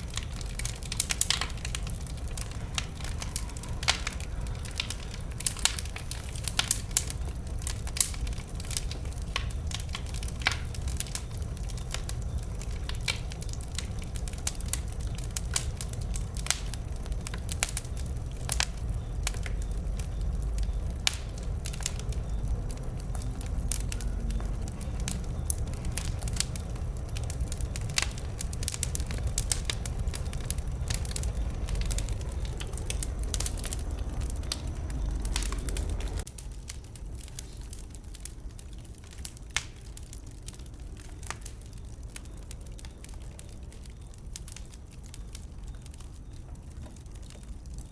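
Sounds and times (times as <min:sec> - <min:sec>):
bonfire low rumble: 0:00.0 - 0:47.9
burning wood popping: 0:00.0 - 0:47.9.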